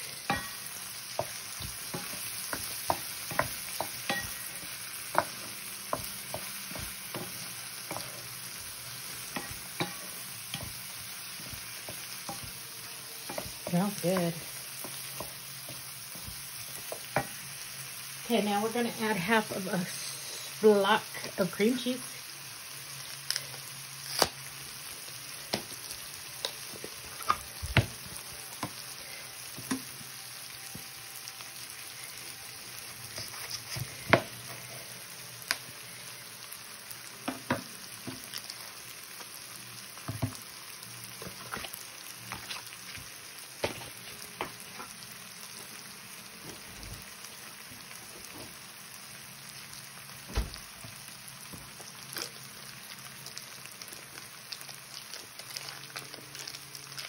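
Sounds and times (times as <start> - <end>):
corn kernels sizzling in skillet: 0.0 - 57.0.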